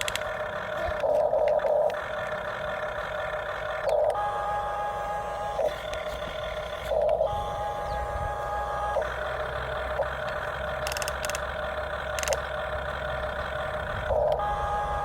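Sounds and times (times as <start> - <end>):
toy vehicle engine-like hum: 0.0 - 15.0.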